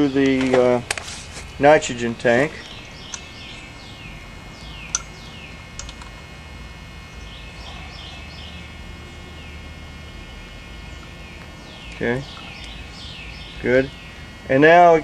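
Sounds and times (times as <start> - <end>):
low background rumble: 0.0 - 14.5
birds chirping: 0.0 - 15.0.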